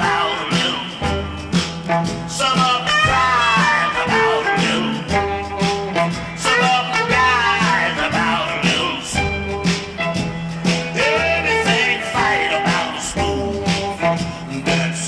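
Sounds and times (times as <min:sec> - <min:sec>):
person singing: 0:00.0 - 0:01.7, 0:02.3 - 0:10.2, 0:10.9 - 0:15.0
bass: 0:00.0 - 0:15.0
drum beat: 0:00.0 - 0:15.0
guitar: 0:00.0 - 0:15.0.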